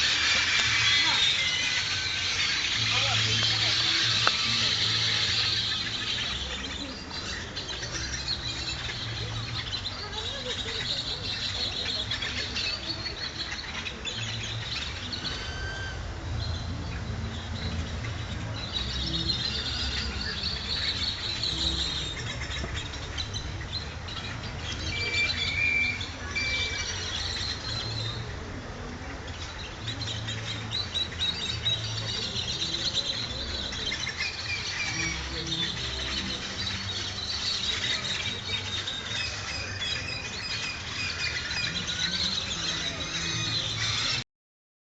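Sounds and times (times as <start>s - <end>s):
flock of birds chirping: 0.0s - 44.2s.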